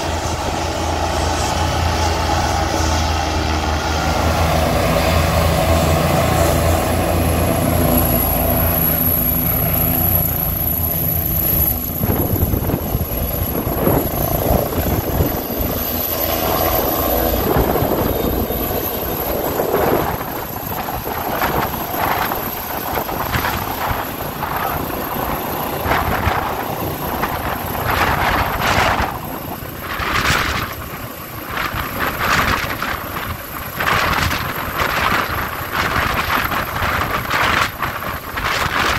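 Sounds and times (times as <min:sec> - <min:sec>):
helicopter rotor rush: 0:00.0 - 0:38.9
helicopter turbine whine: 0:00.0 - 0:38.9.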